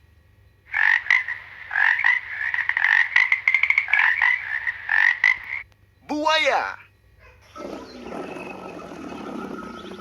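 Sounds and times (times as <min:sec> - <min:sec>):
frogs croaking: 0:00.5 - 0:10.0.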